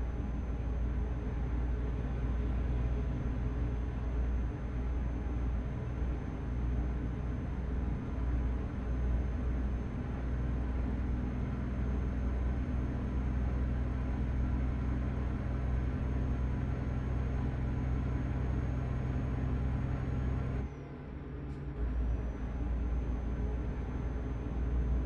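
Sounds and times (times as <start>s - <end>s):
truck engine and road drone: 0.0s - 25.0s.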